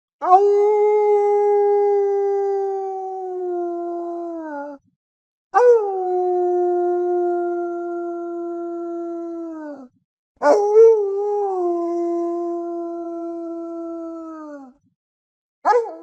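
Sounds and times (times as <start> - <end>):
wolf howling: 0.2 - 4.8, 5.6 - 14.7.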